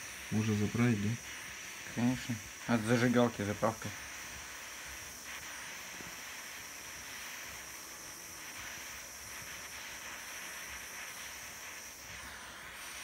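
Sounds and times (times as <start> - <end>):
jet torch hissing: 0.0 - 13.0.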